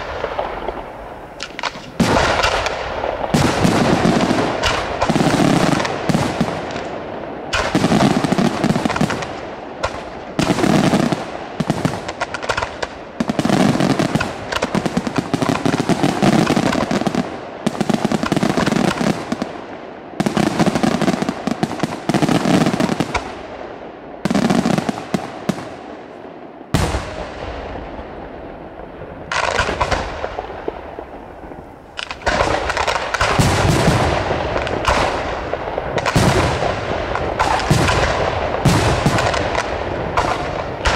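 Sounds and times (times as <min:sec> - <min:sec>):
fireworks bangs and crackle: 0:00.0 - 0:40.9.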